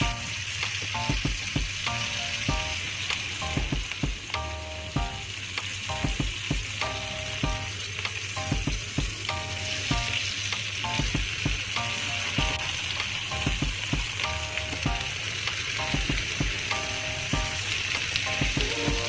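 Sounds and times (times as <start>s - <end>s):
shrimp sizzling in hot oil: 0.0s - 19.0s.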